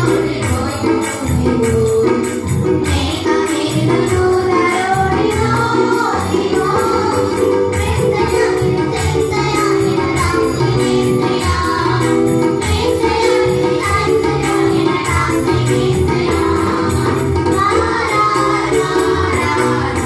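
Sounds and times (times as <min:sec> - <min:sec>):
girls singing through microphones: 0:00.0 - 0:20.0
jingling percussion beat: 0:00.0 - 0:20.0.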